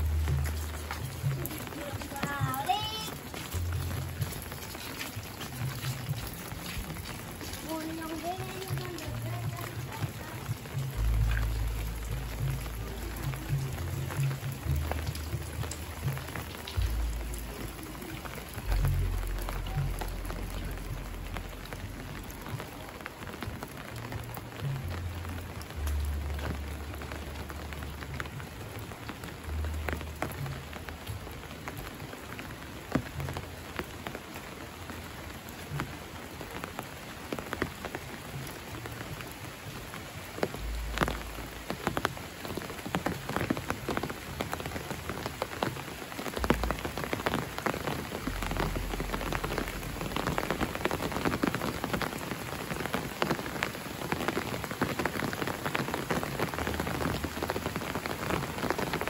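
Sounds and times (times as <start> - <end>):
close raindrop hits: 0.0 - 59.0
steady rainfall: 0.0 - 59.0.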